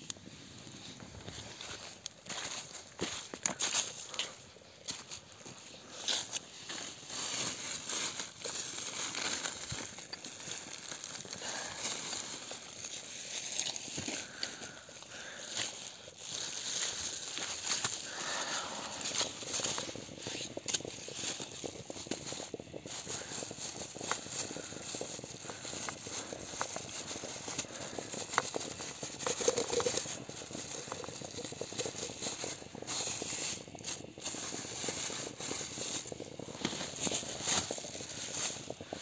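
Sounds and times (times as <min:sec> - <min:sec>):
samovar crackling and rattling: 0:00.3 - 0:39.0.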